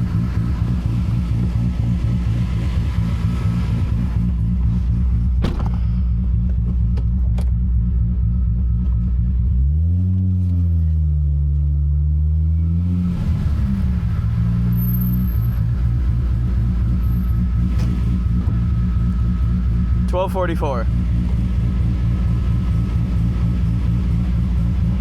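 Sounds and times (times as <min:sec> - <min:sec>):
car engine deep rumble: 0:00.0 - 0:25.0.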